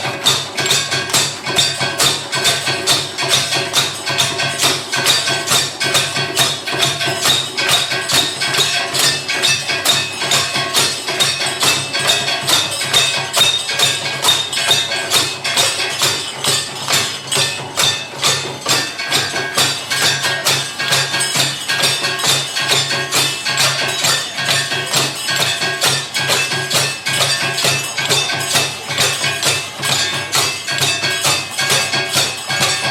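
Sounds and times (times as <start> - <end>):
fast percussion strikes: 0.0 - 32.9.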